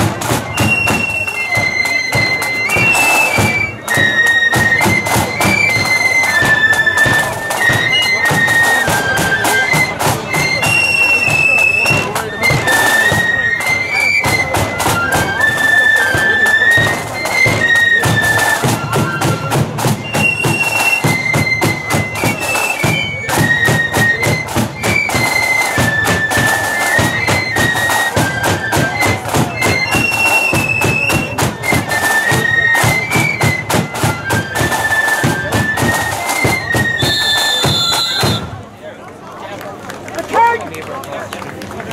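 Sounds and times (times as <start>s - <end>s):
flutes playing in unison: 0.0s - 38.7s, 40.3s - 40.7s
marching drums beating: 0.0s - 38.7s.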